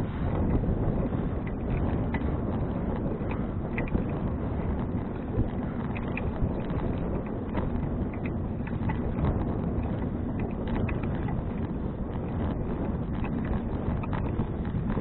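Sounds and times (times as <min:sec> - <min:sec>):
wind rushing on microphone: 0:00.0 - 0:15.0
bicycle frame rattling: 0:00.1 - 0:15.0.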